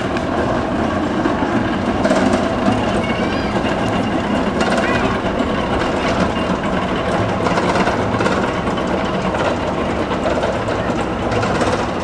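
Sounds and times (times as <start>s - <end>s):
roller coaster rattling on track: 0.0s - 12.0s.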